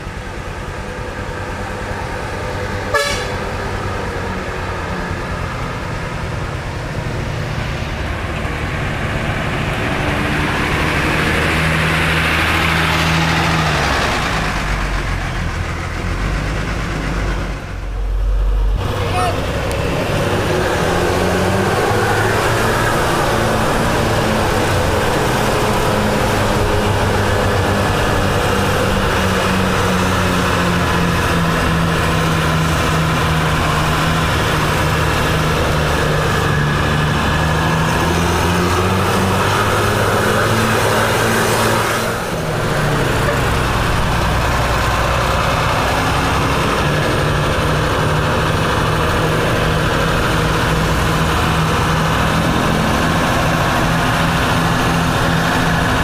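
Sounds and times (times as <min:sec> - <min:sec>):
bus diesel engine under load: 0:00.0 - 0:56.0.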